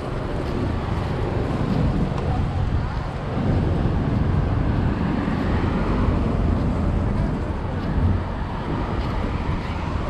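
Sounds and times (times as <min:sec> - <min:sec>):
road traffic: 0:00.0 - 0:10.0
wind buffeting microphone: 0:00.0 - 0:10.0.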